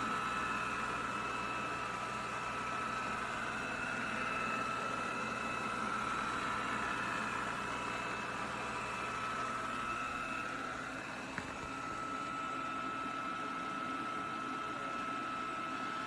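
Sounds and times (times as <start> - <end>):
robot vacuum suction fan whir: 0.0 - 16.0.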